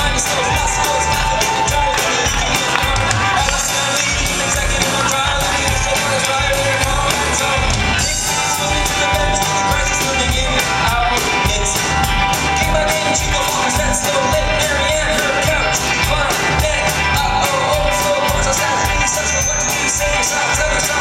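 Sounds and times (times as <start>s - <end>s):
bass guitar: 0.0s - 21.0s
drum beat: 0.0s - 21.0s
man singing into microphone: 0.0s - 21.0s.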